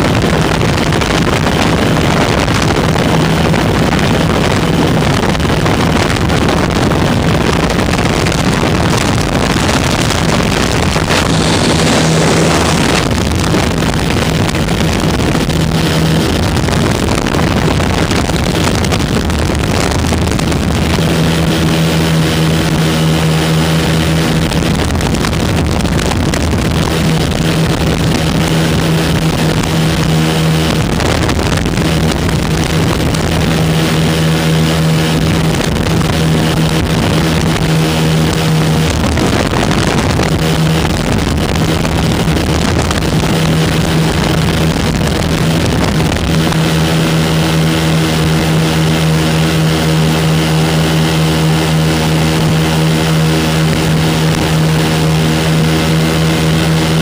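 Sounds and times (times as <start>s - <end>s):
ultralight aircraft engines droning: 0.0s - 57.0s.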